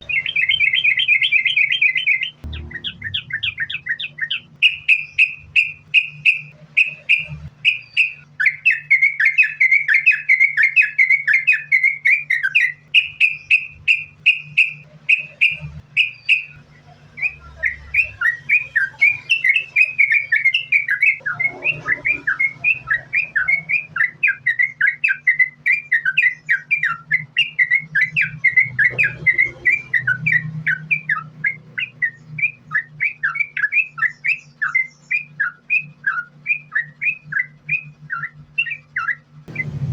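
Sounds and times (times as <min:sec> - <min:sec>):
bird chirping song: 0:00.0 - 0:39.9
low steady hum: 0:00.0 - 0:39.9.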